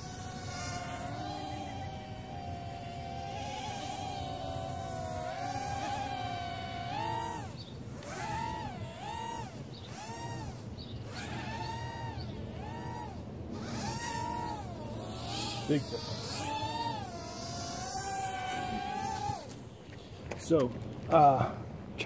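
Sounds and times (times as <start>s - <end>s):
quadcopter motors whining: 0.0s - 20.6s.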